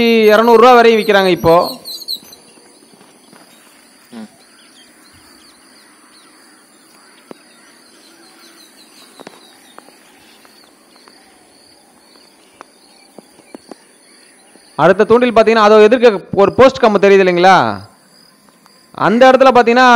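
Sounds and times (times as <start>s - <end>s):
birds chirping: 0.0s - 19.9s
steady high hiss: 0.0s - 19.9s.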